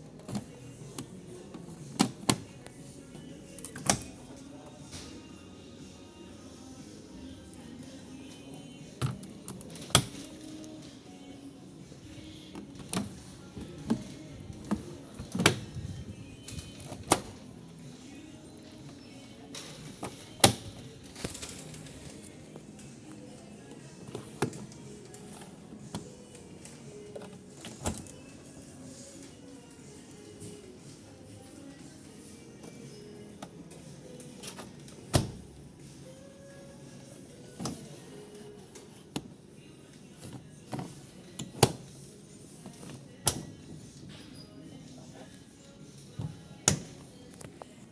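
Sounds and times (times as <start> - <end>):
background music: 0.0 - 47.9
steady background hum: 0.0 - 47.9.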